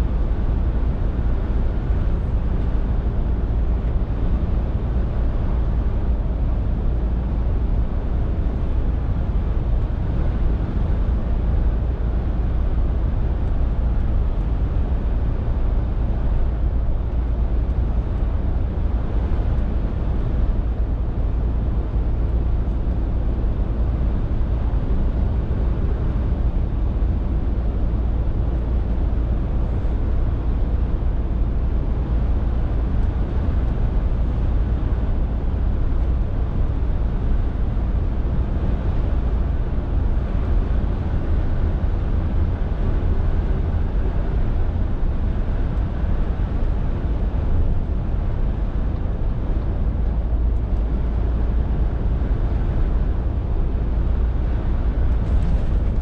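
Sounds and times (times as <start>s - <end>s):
lorry diesel engine drone: 0.0s - 56.0s
road and wind noise: 0.0s - 56.0s.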